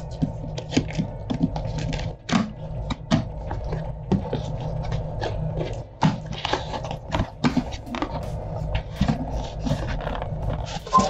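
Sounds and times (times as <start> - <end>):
taps clicks and scraping: 0.0 - 11.0.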